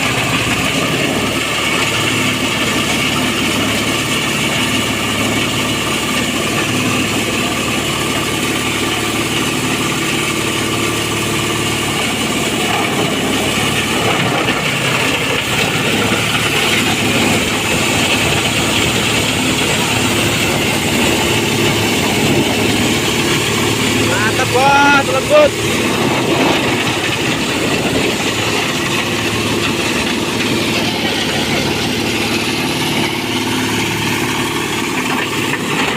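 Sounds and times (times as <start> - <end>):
chopper machine engine hum: 0.0 - 35.9
dense rushing grinding noise: 0.0 - 35.9.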